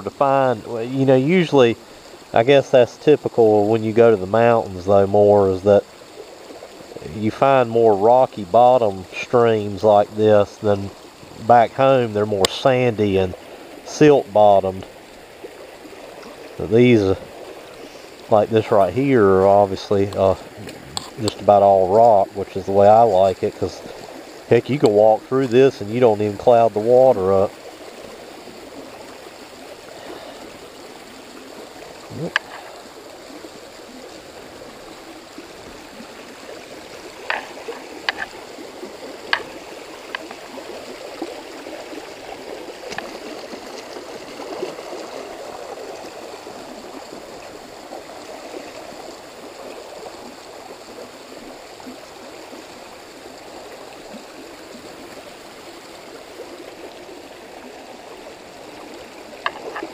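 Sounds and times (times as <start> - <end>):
creek water over rocks: 0.0 - 59.9.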